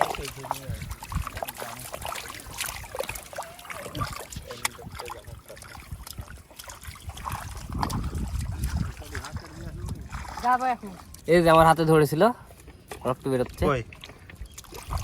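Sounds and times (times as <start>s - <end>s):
small clicks and splats: 0.0s - 11.3s, 12.5s - 15.0s
water sloshing and splashing: 0.0s - 15.0s.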